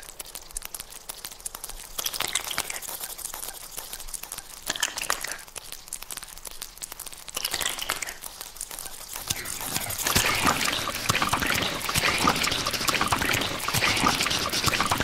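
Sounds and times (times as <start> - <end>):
crackling electronic dance music: 0.0 - 15.0.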